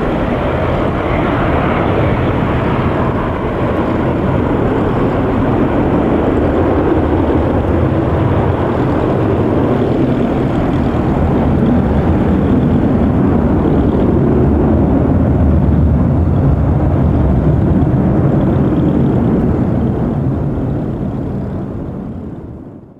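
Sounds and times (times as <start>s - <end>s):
jet engines rumbling: 0.0s - 22.9s.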